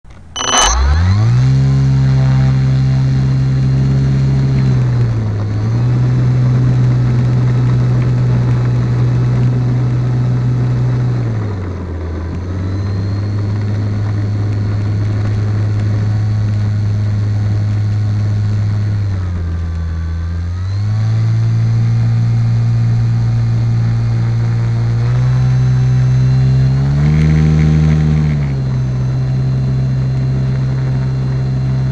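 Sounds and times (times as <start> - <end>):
electric motor whine: 0.1 - 31.9.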